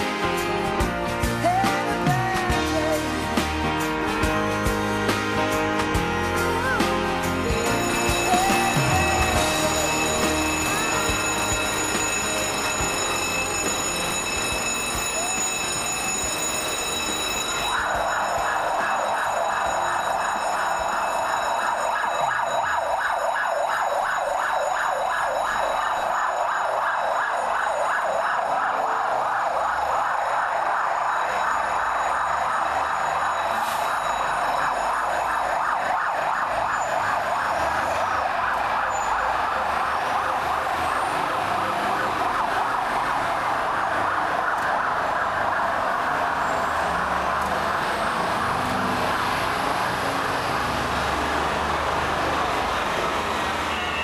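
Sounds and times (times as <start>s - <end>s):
emergency vehicle siren: 0.0s - 54.0s.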